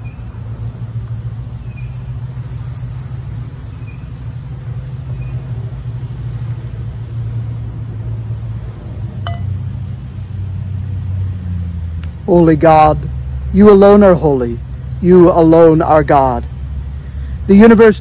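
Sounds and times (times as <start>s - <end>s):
crickets chirping: 0.0s - 18.0s
low steady rumble: 0.0s - 18.0s.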